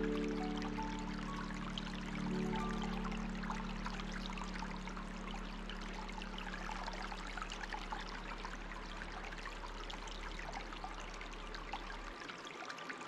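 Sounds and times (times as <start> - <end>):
soft low drone: 0.0 - 12.2
stream trickling and babbling: 0.0 - 13.0.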